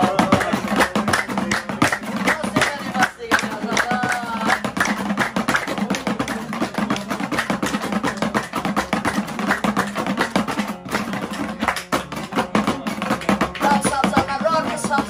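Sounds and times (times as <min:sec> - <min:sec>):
lute strummed fast: 0:00.0 - 0:15.0
percussion: 0:00.0 - 0:15.0.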